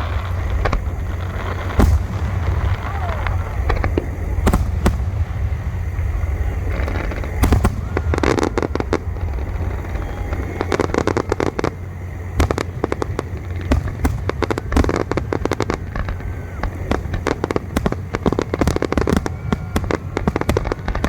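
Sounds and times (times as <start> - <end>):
low rumble: 0.0 - 18.4
crackling pops: 0.0 - 21.0
firework bangs: 0.0 - 21.0.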